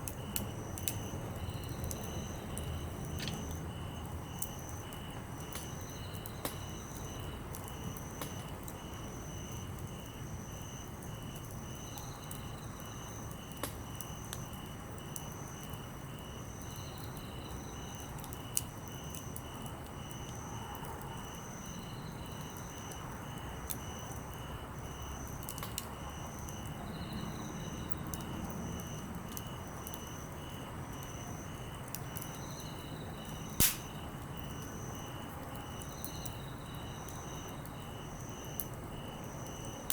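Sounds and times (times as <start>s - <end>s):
campfire crackling and popping: 0.0s - 21.3s, 22.3s - 26.8s, 27.6s - 39.9s
insects trilling: 0.0s - 39.9s.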